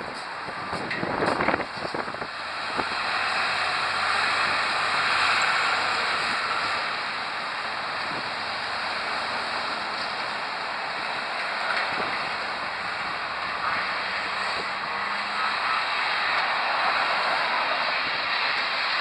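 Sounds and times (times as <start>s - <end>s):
road traffic rushing: 0.0s - 19.0s.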